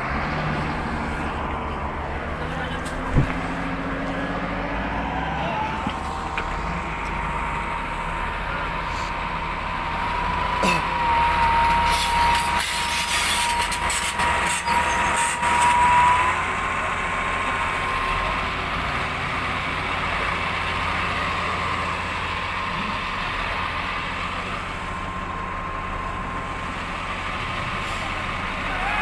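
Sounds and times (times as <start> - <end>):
heavy machinery engine rumble: 0.0 - 29.0.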